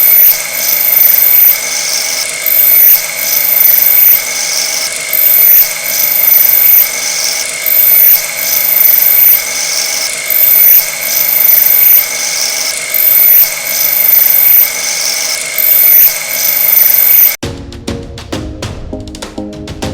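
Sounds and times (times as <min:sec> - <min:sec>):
machine tool squealing cutting metal: 0:00.0 - 0:17.4.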